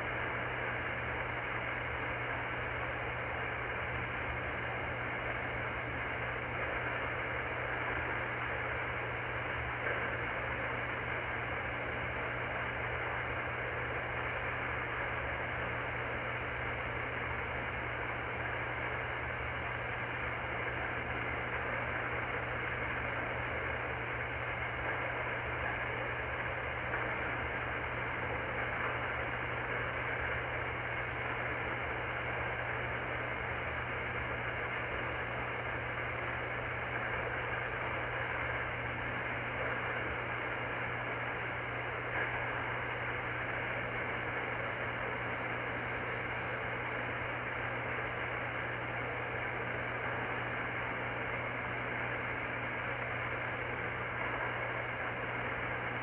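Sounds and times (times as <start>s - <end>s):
low steady hum: 0.0s - 56.0s
radio static hiss: 0.0s - 56.0s.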